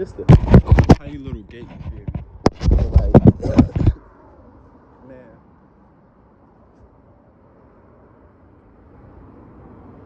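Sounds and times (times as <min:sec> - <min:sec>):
faint outdoor rumble: 0:00.0 - 0:10.0.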